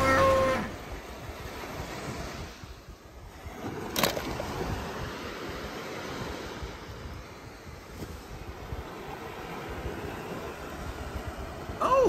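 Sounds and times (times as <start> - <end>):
surf on beach: 0.0 - 12.0
wind buffeting microphone: 0.0 - 12.0.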